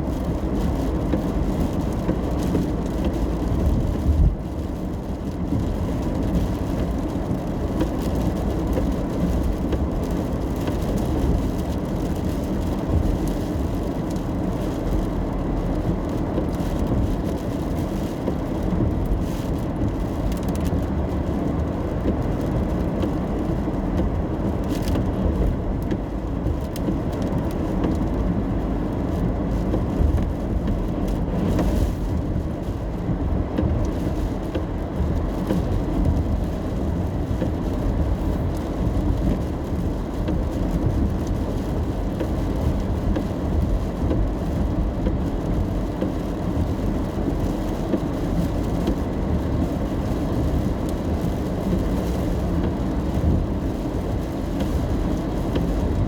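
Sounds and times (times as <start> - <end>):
engine and tyres on wet road: 0.0 - 56.0
rain on car: 0.0 - 56.0.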